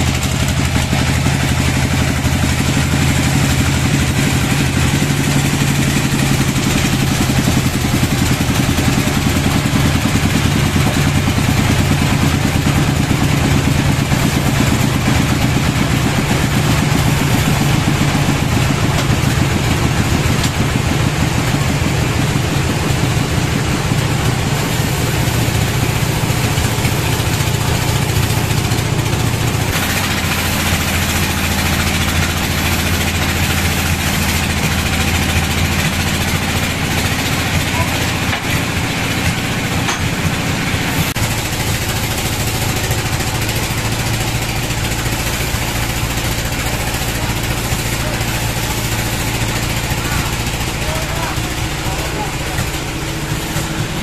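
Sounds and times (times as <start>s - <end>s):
band saw cutting log: 0.0s - 54.0s
sawmill motor droning: 0.0s - 54.0s.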